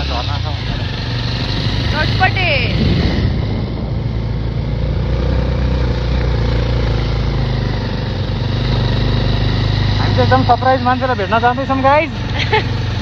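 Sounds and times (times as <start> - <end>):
motorcycle engine running: 0.0 - 13.0
steady rushing noise: 0.0 - 13.0.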